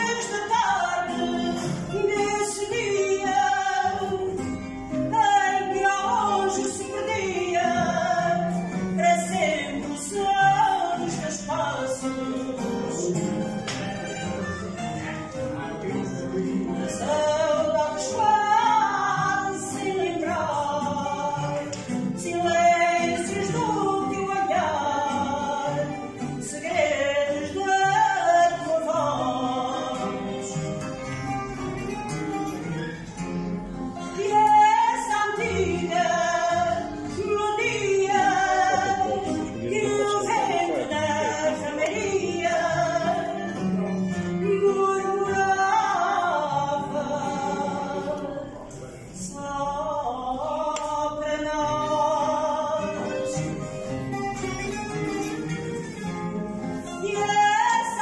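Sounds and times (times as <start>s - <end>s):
woman singing: 0.0s - 13.3s, 16.9s - 31.0s, 34.0s - 43.6s, 44.3s - 48.5s, 49.2s - 53.6s, 56.8s - 58.0s
guitars playing: 0.0s - 58.0s.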